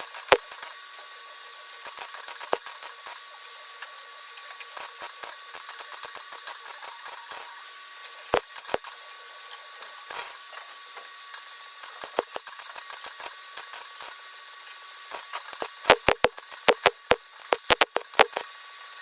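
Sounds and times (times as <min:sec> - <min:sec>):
welding arc crackling: 0:00.0 - 0:08.9, 0:11.3 - 0:18.6.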